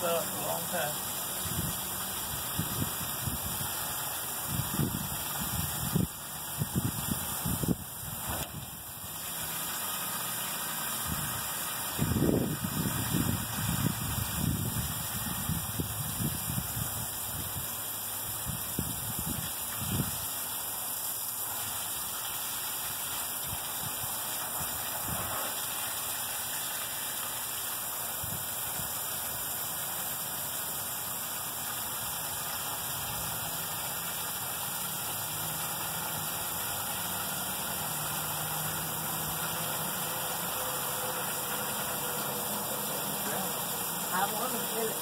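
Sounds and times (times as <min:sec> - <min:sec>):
garden hose spraying water: 0:00.0 - 0:45.0.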